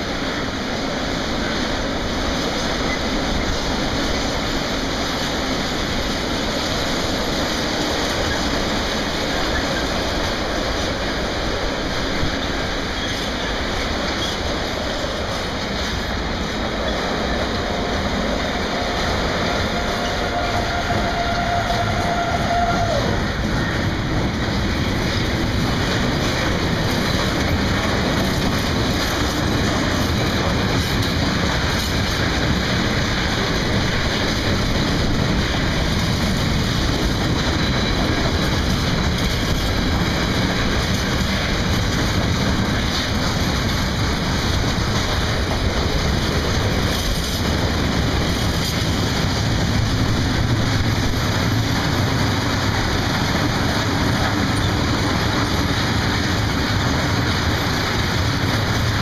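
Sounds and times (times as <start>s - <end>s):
train wheels running on rails: 0.0s - 59.0s.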